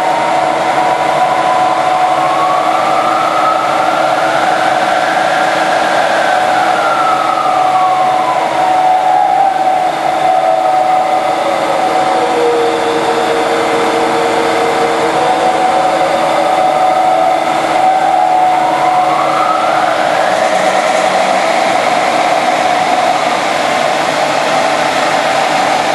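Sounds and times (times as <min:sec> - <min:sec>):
lathe mechanical hum: 0:00.0 - 0:25.9.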